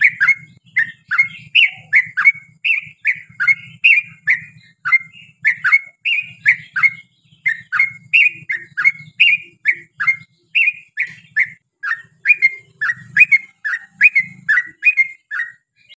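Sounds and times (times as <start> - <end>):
bird chirping bubbly notes: 0.0 - 16.0.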